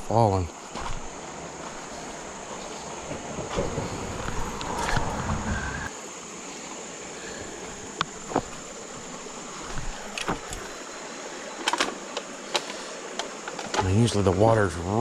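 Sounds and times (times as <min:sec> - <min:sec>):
flowing creek water: 0:00.0 - 0:15.0.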